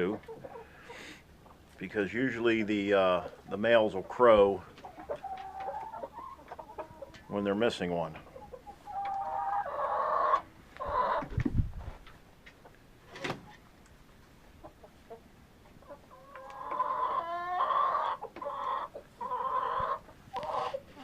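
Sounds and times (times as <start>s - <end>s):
chicken clucking: 0.0s - 21.0s.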